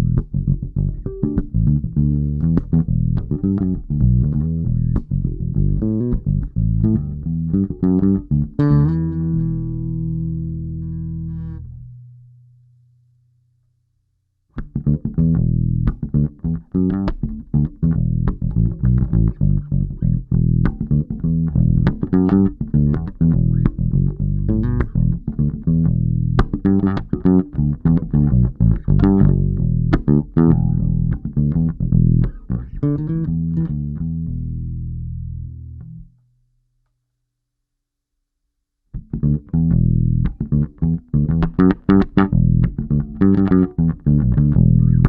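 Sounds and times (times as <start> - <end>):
electric bass plucked notes: 0.0 - 13.4, 14.6 - 36.3, 38.9 - 45.0.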